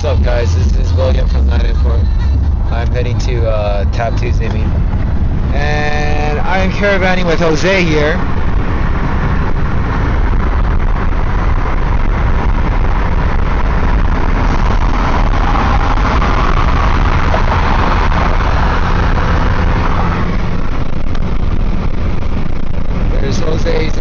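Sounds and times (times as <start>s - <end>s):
car engine and tyre rumble: 0.0s - 24.0s
wind rush: 0.0s - 24.0s.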